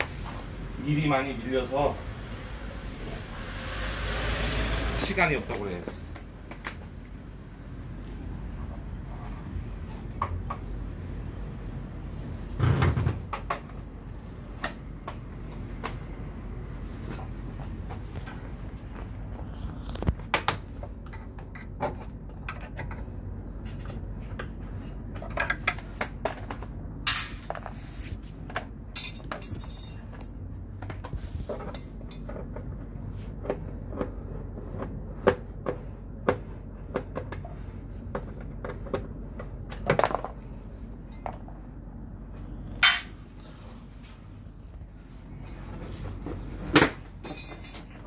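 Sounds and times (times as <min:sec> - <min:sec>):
steady low hum: 0:05.1 - 0:48.0.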